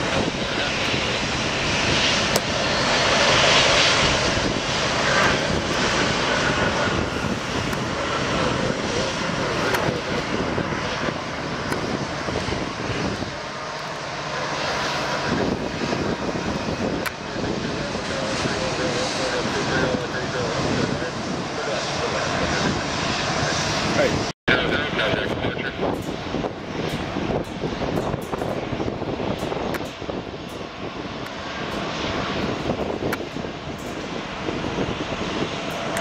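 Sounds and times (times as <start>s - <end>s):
airliner engines roaring: 0.0s - 36.0s.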